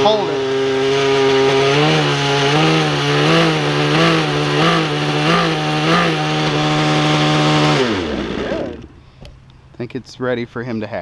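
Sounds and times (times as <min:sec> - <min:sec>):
model helicopter engine buzzing: 0:00.0 - 0:09.0.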